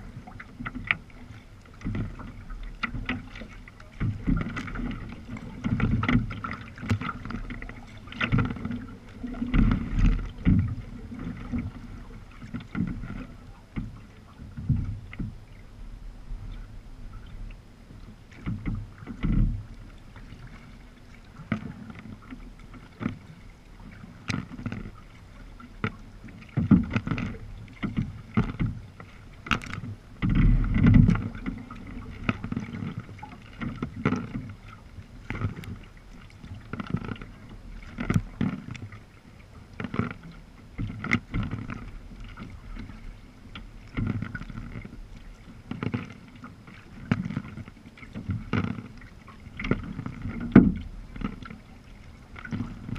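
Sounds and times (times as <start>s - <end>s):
paddle strokes splashing in water: 0.0s - 52.9s
water sloshing against hull: 0.0s - 52.9s.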